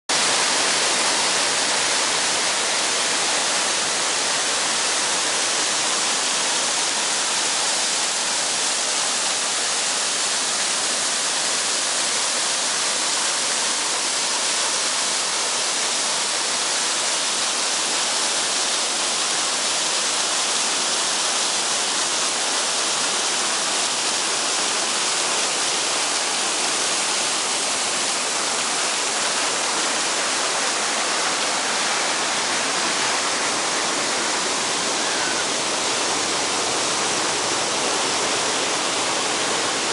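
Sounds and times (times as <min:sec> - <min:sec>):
waterfall splashing on rock ledges: 0:00.1 - 0:39.9.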